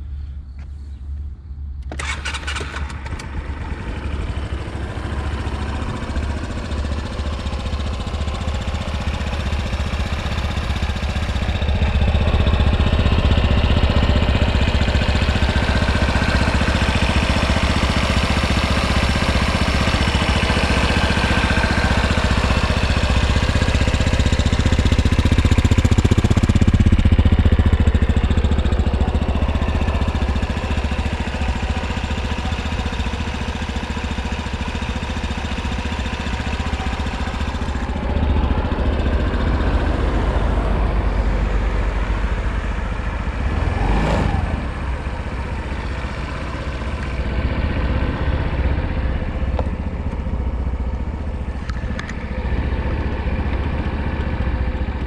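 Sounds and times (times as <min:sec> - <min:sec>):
scooter engine idling: 0:01.8 - 0:55.0.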